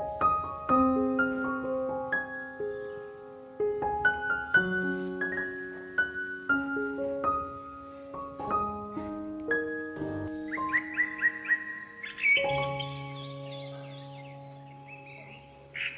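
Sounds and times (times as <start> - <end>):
gentle piano melody: 0.0 - 15.9.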